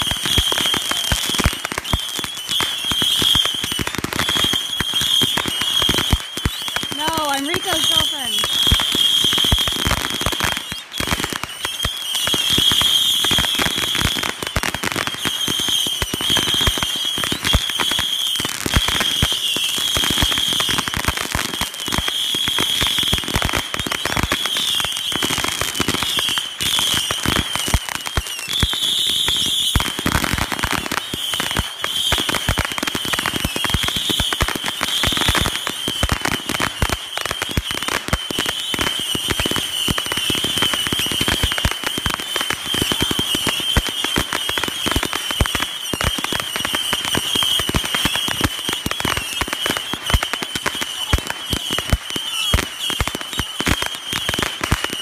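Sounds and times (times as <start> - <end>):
fireworks popping and crackling: 0.0 - 55.0.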